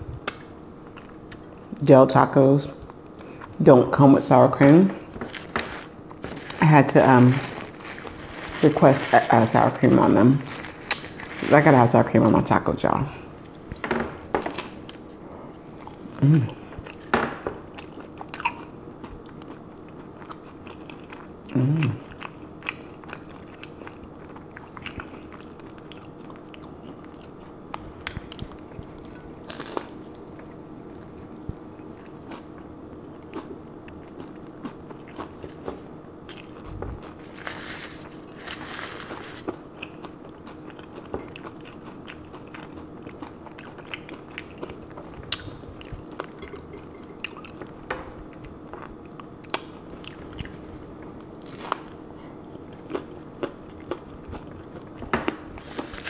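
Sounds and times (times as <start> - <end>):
faint steady hum: 0.0 - 56.0
crunchy taco being chewed: 0.2 - 1.8, 5.0 - 9.6, 10.4 - 11.5, 13.4 - 56.0.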